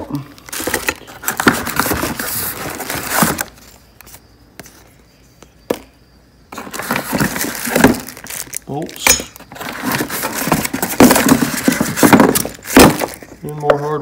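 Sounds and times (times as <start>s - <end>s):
plastic bags and cardboard rustling: 0.0s - 5.0s, 6.5s - 14.0s.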